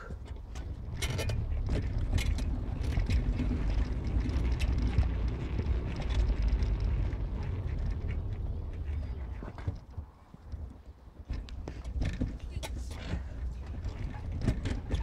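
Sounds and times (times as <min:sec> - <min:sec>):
vehicle rumbling: 0:00.0 - 0:15.0.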